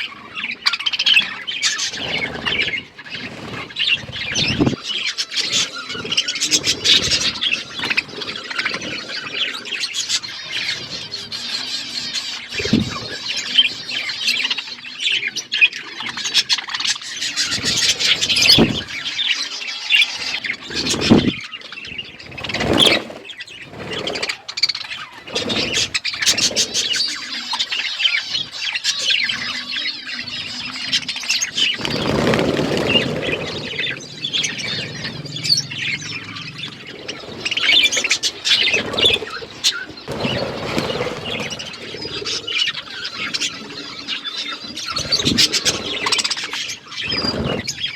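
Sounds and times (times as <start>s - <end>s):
budgerigars chattering and chirping: 0.0s - 47.9s.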